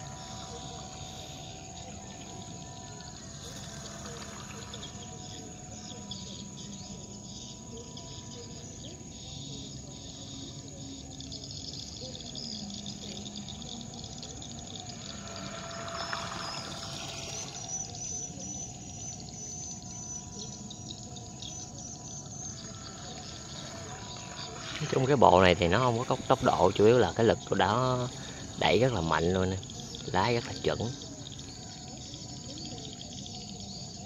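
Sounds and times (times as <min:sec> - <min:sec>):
insects chirring: 0:00.0 - 0:34.0
model boat motor whine: 0:00.0 - 0:34.0.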